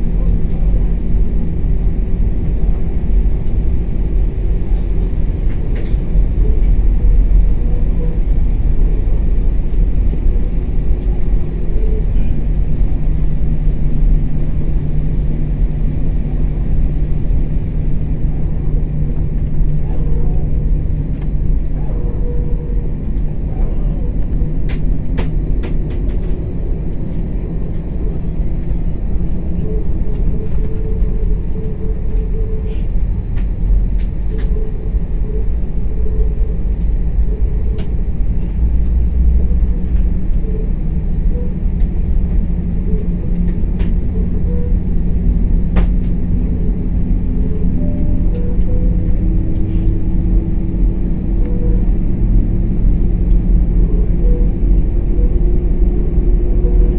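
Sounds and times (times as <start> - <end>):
aircraft engines rumbling in cabin: 0.0 - 56.9.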